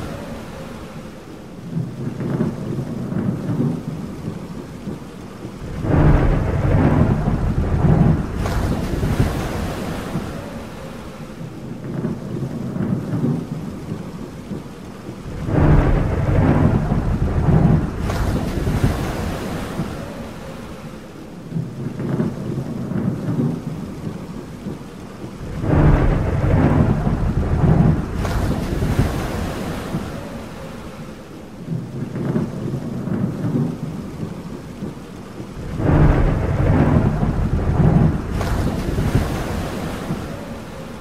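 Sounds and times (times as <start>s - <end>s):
rain: 0.0s - 41.0s
wind: 0.0s - 41.0s
thunder rolling: 1.6s - 11.1s, 11.7s - 20.8s, 21.5s - 41.0s.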